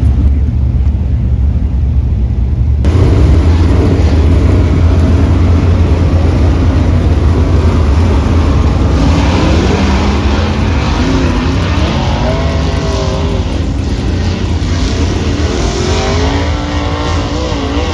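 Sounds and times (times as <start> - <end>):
race car engines rumbling: 0.0 - 17.9.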